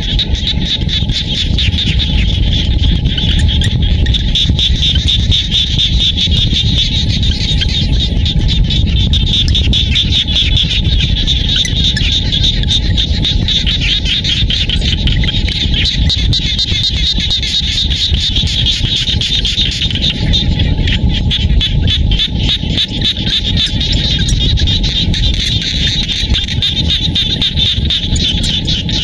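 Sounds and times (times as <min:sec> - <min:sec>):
frogs calling: 0:00.0 - 0:29.0
steady low rumble: 0:00.0 - 0:29.0.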